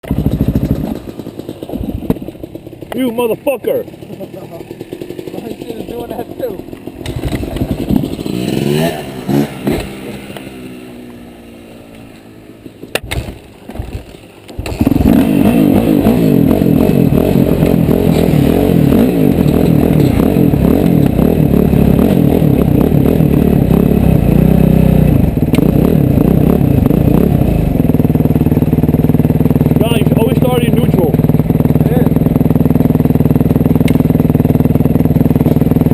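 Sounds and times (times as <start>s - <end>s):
motocross bike engine: 0.0s - 35.9s.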